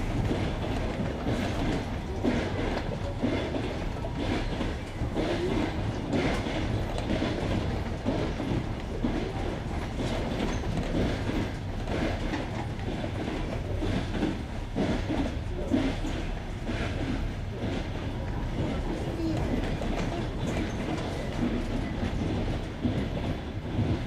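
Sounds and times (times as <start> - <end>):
train wheels clickety-clack on rails: 0.0 - 24.0.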